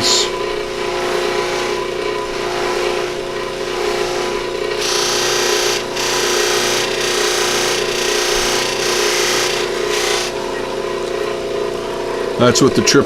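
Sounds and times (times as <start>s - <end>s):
buffer motor hum: 0.0s - 13.0s.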